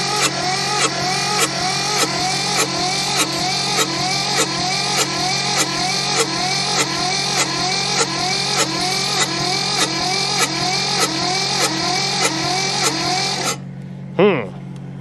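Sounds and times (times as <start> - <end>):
starter cranking diesel engine: 0.0 - 13.7.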